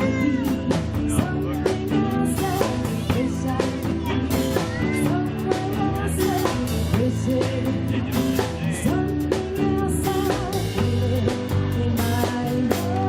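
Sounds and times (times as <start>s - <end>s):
drum kit steady beat: 0.0s - 13.0s
live band playing: 0.0s - 13.0s.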